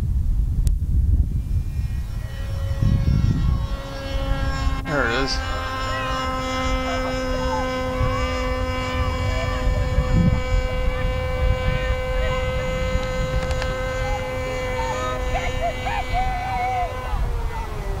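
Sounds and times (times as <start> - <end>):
electrical hum: 0.0 - 18.0
wind on microphone: 0.0 - 18.0.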